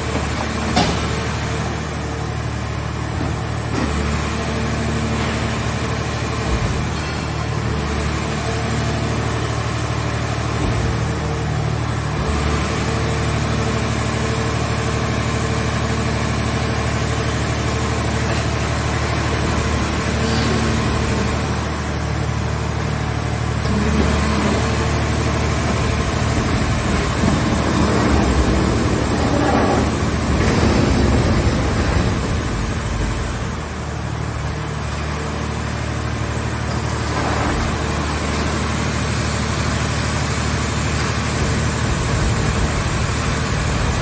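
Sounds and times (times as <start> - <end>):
baler engine and hydraulic whine: 0.0 - 44.0.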